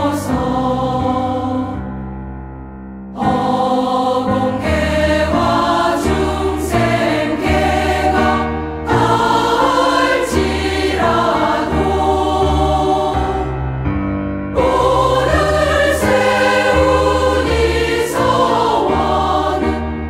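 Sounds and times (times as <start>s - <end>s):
choir singing a hymn: 0.0s - 2.1s, 3.1s - 13.9s, 14.5s - 20.0s
instrumental accompaniment: 0.3s - 20.0s.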